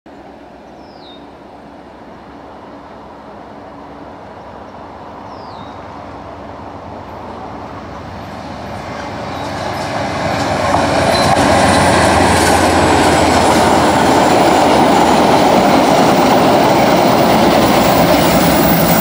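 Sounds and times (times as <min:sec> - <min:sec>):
diesel locomotive engine and wheels: 0:00.1 - 0:19.0.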